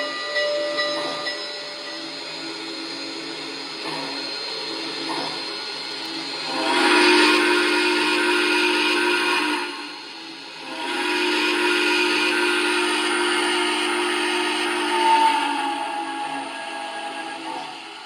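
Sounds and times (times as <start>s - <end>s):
steam locomotive whistle blasts: 0.0s - 3.3s, 6.4s - 18.0s.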